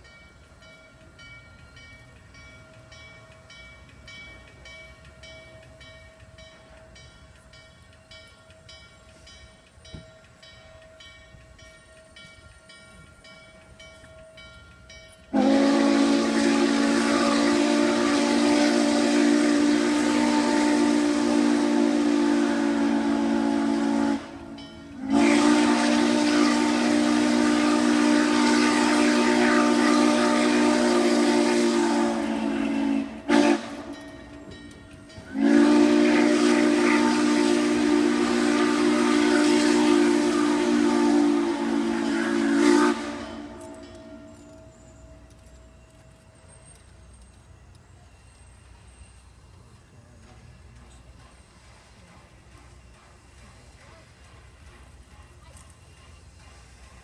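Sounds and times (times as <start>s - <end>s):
steam hiss: 0.0s - 57.0s
steam locomotive chime whistle: 0.0s - 57.0s.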